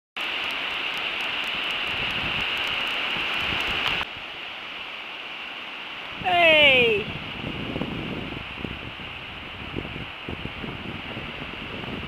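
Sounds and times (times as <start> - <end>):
surf washing on beach: 0.2 - 12.0
wind hiss on microphone: 0.2 - 12.0.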